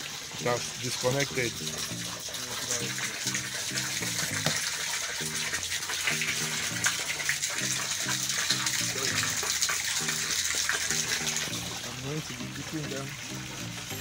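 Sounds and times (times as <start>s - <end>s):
water splashing and gushing: 0.0s - 14.0s.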